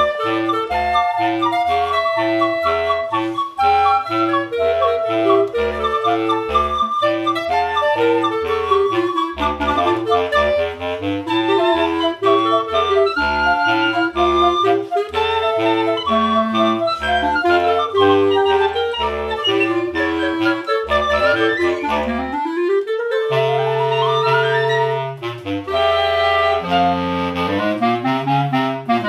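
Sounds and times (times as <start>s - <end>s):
bass clarinet short low notes: 0.0s - 29.0s
woodwind quartet playing a march: 0.0s - 29.0s.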